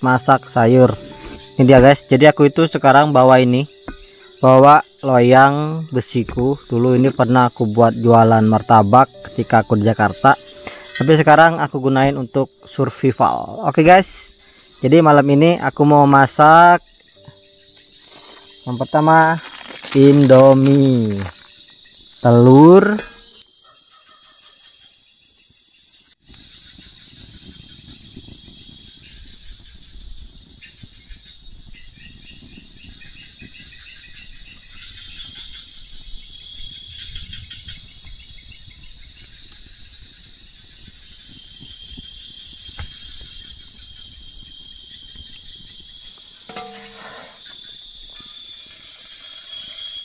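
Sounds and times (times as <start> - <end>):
crickets chirping: 0.0 - 50.0.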